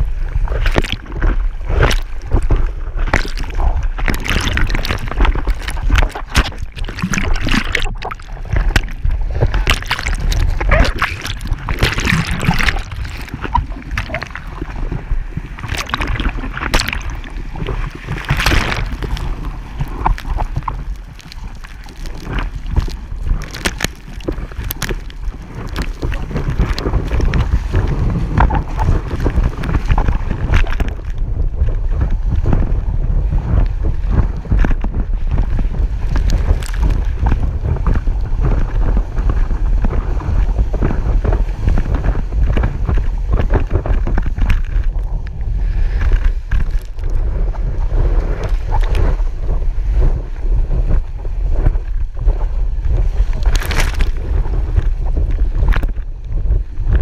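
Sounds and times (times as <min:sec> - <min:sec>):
water splashing and rushing: 0:00.0 - 0:57.0
wind buffeting microphone: 0:00.0 - 0:57.0.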